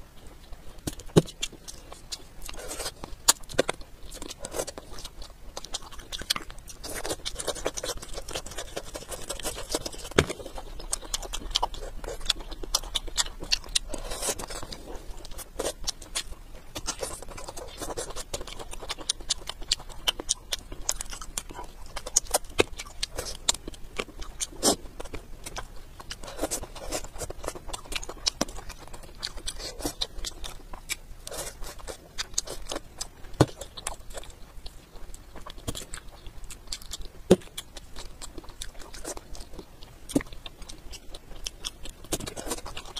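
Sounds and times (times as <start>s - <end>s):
person chewing fish: 0.1s - 42.9s.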